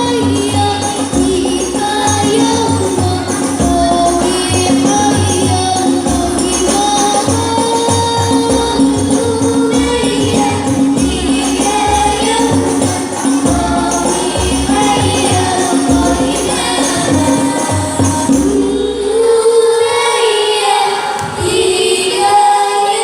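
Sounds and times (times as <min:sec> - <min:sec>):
group of voices singing: 0:00.0 - 0:23.0.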